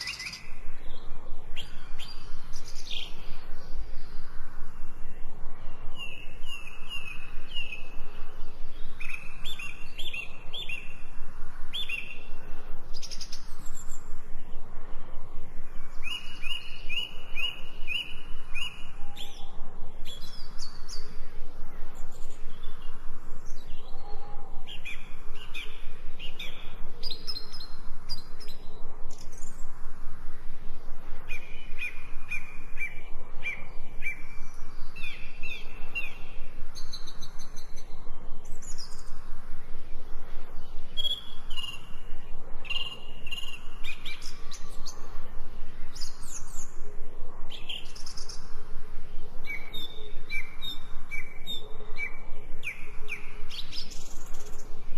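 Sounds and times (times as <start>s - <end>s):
songbirds chirping and singing: 0.0s - 29.8s, 30.6s - 54.9s.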